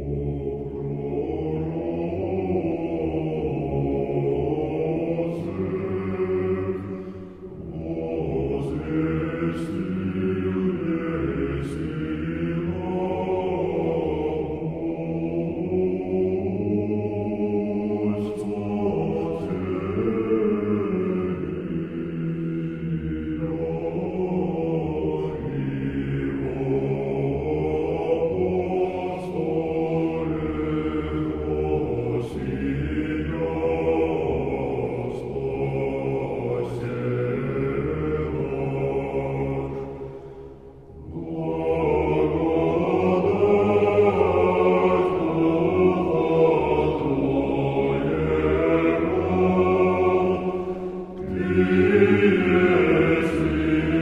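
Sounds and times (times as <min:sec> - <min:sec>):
choir chanting in harmony: 0:00.0 - 0:54.0.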